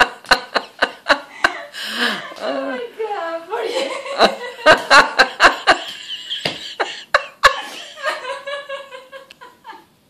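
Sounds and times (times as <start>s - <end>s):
woman laughing: 0.0s - 2.7s, 3.5s - 9.9s.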